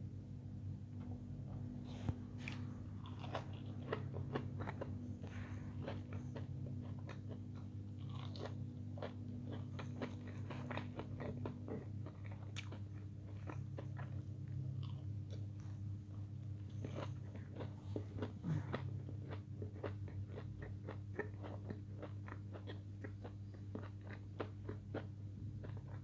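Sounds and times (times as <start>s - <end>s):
steady low hum: 0.0s - 26.0s
person chewing crunchy food: 1.0s - 26.0s.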